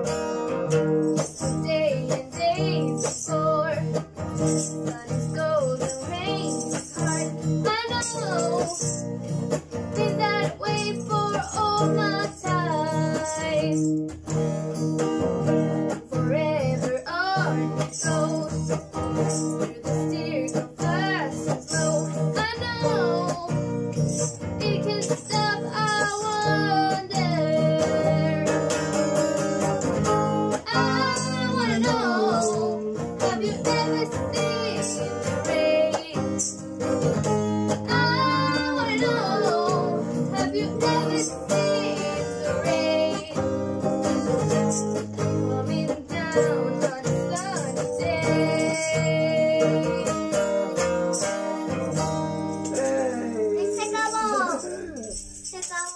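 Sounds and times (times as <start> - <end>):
acoustic guitar strumming: 0.0 - 55.4
tambourine jingling: 0.0 - 55.9
woman singing: 1.2 - 14.0, 15.8 - 23.8, 24.4 - 29.6, 30.4 - 36.6, 37.7 - 43.8, 45.0 - 52.5.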